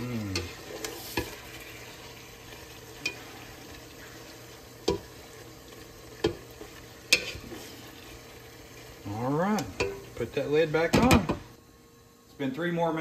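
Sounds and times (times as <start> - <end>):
bacon sizzling in a pot: 0.0 - 13.0.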